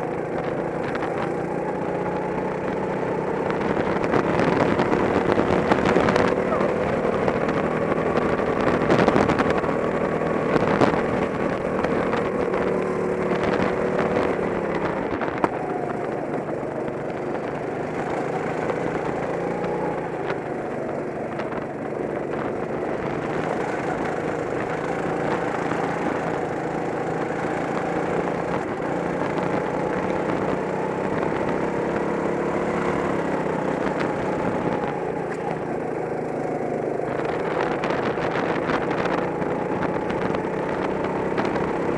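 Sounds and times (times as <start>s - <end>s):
kart engine buzzing: 0.0s - 41.9s.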